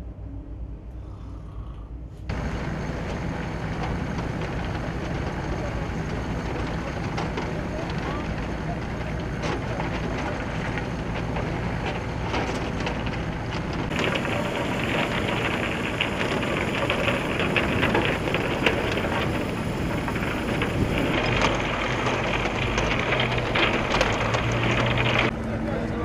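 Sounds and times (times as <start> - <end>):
boat engine hum: 0.0 - 26.0.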